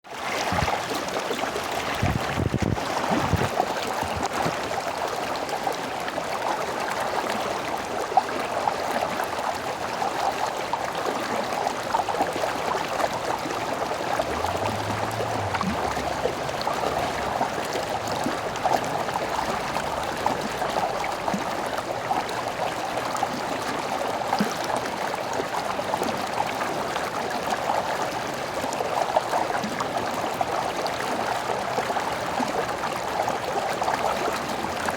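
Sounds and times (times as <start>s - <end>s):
stream babbling over rocks: 0.1s - 34.9s.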